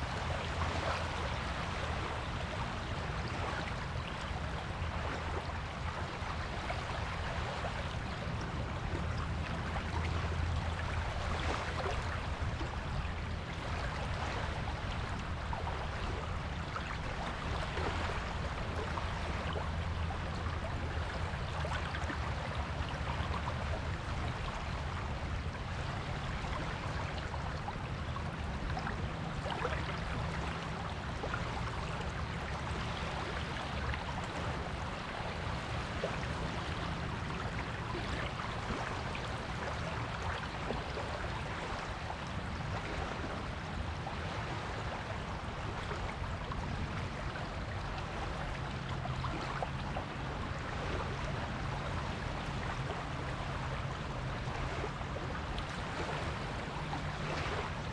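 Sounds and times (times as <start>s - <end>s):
waves washing on beach: 0.0s - 57.9s.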